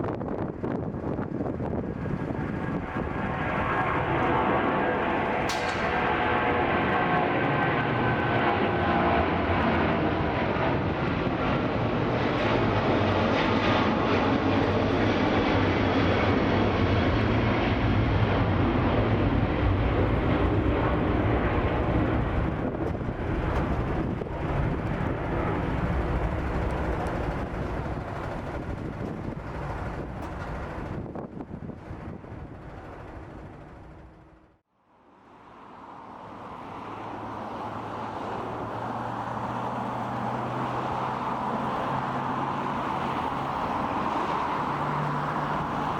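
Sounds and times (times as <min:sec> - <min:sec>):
jet engines roaring: 0:00.0 - 0:34.6, 0:35.4 - 0:45.9.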